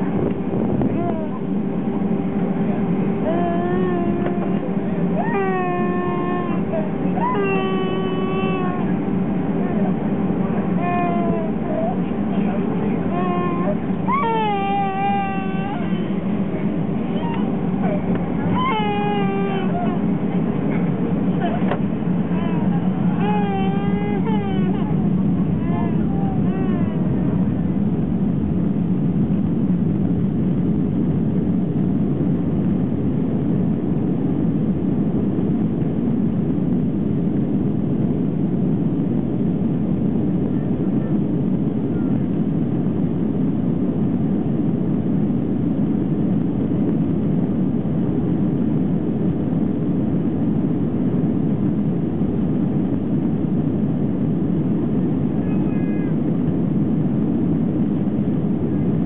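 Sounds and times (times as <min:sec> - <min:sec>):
airliner cabin engine hum: 0:00.0 - 0:59.0.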